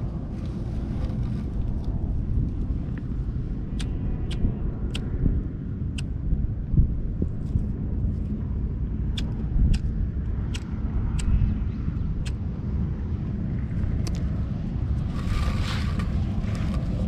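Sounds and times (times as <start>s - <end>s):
low rumble: 0.0s - 17.0s
wind buffeting microphone: 0.0s - 17.0s.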